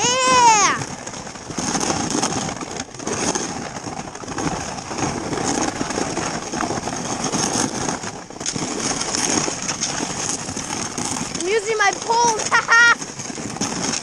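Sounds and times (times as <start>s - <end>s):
skis sliding over snow: 0.0s - 14.0s.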